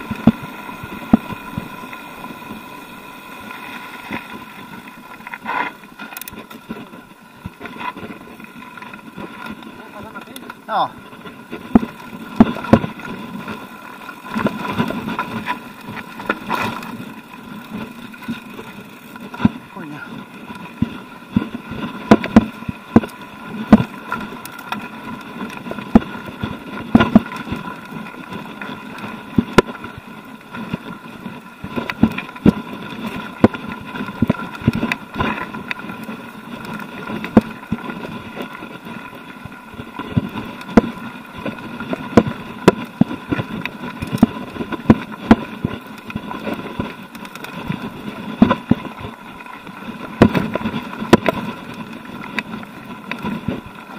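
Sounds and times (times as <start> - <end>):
bike tyres rumbling on gravel: 0.0 - 53.9
bike knocking and rattling: 4.1 - 53.9.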